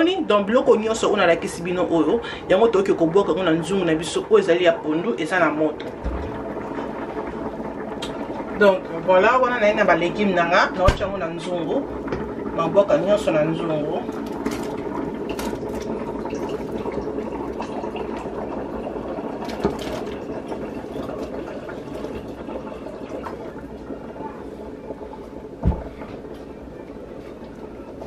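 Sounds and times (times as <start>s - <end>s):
pot simmering with bubbling hiss: 0.0s - 28.0s.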